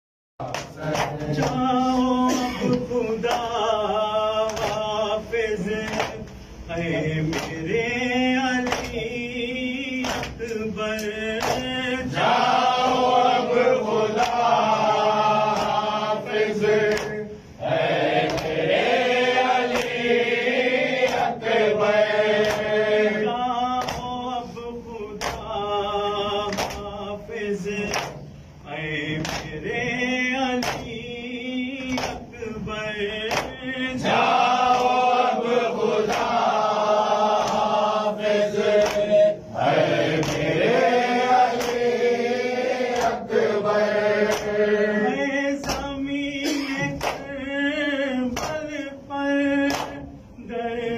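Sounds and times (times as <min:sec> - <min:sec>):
men chanting in unison: 0:00.5 - 0:50.9.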